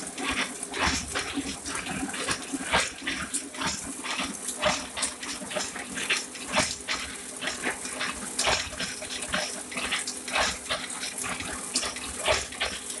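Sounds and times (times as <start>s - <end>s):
printing press hum and hiss: 0.0s - 13.0s
machine clicks and clatter: 0.2s - 13.0s.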